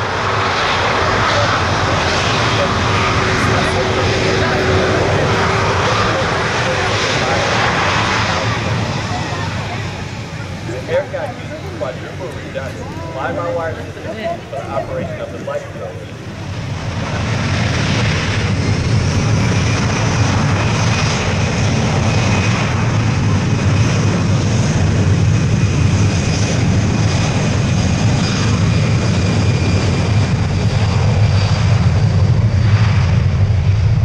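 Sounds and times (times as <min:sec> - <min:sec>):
aircraft engines droning: 0:00.0 - 0:34.0.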